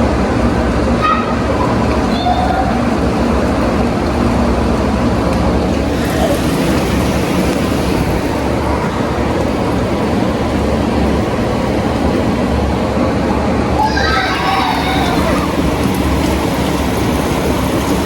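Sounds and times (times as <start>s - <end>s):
wind and rain rushing: 2.8s - 18.0s.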